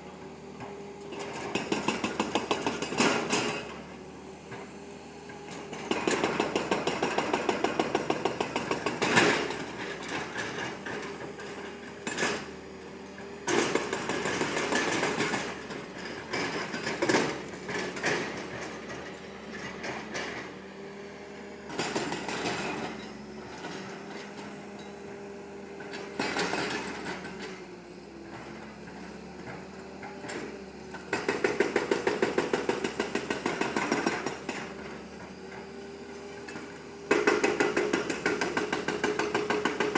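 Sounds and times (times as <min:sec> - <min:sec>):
excavator engine and hydraulic hum: 0:00.0 - 0:39.9.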